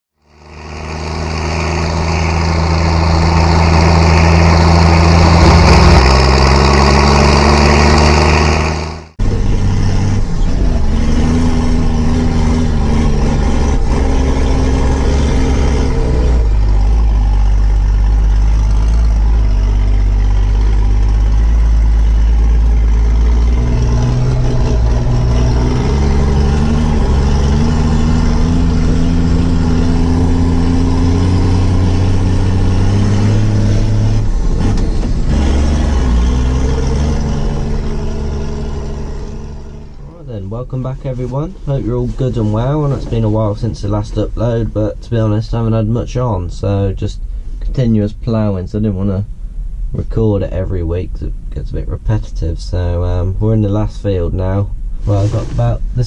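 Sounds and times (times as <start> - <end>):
tractor diesel engine under load: 0.1 - 56.0.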